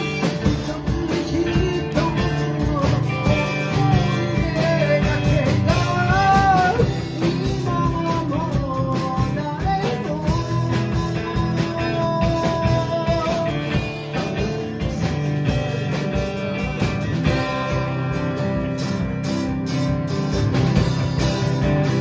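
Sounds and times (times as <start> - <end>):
bass: 0.0 - 22.0
drums: 0.0 - 22.0
guitar: 0.0 - 22.0.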